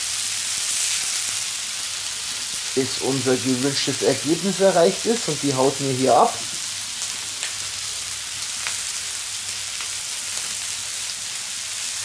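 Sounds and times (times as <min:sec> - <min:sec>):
skewers sizzling on hot plate: 0:00.0 - 0:12.0.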